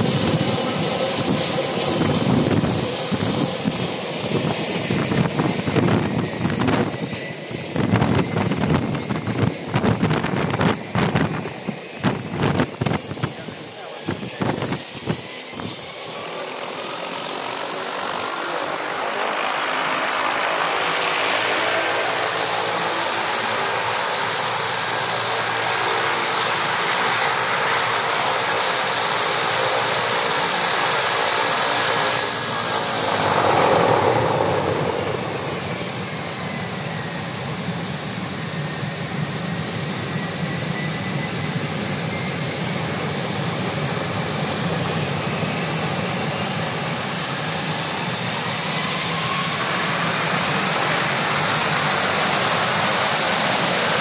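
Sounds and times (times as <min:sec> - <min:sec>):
turboprop engine running: 0:00.0 - 0:54.0.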